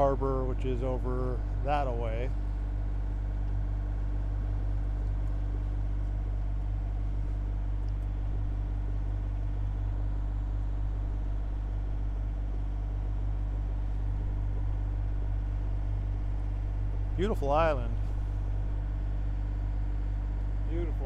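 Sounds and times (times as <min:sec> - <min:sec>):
boat engine droning: 0:00.0 - 0:02.6, 0:06.6 - 0:21.0.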